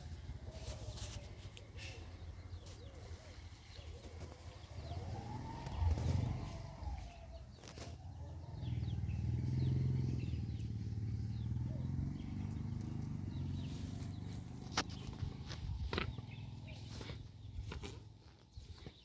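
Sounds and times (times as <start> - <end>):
chickens chirping: 0.0 - 19.0.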